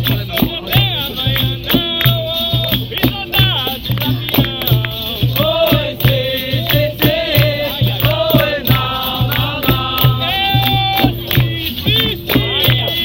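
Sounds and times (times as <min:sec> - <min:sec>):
sharp percussion strokes: 0:00.0 - 0:13.0
steady drum beat: 0:00.0 - 0:13.0
voices chanting together: 0:00.0 - 0:13.0.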